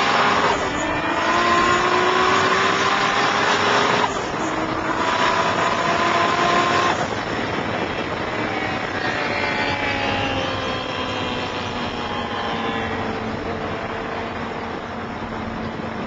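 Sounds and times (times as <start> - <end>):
car engine: 0.0 - 16.0
road noise: 0.0 - 16.0.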